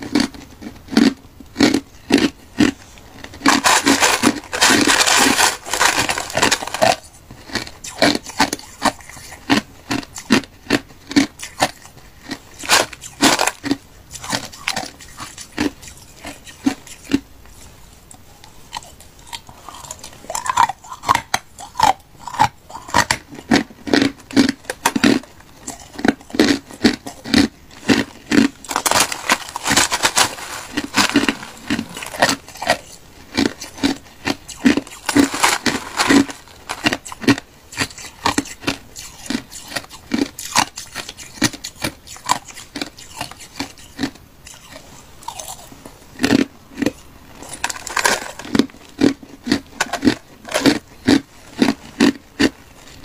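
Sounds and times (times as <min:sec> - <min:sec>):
ice crunched between teeth: 0:00.0 - 0:17.2, 0:18.7 - 0:53.0
spoon scraping crushed ice: 0:01.6 - 0:17.2, 0:18.7 - 0:45.7, 0:46.8 - 0:52.1.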